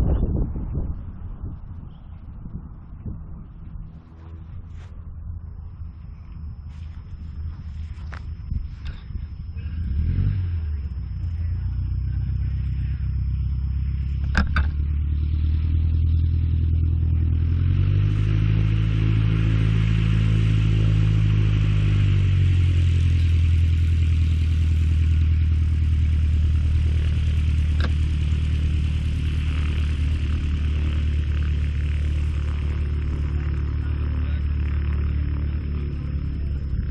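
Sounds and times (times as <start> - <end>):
light aircraft piston engine: 0.0 - 36.9.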